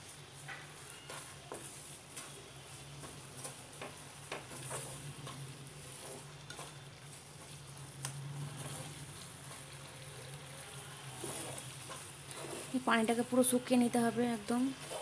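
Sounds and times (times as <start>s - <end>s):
soft sizzle: 0.0s - 15.0s
wooden spatula scraping pan: 0.0s - 15.0s.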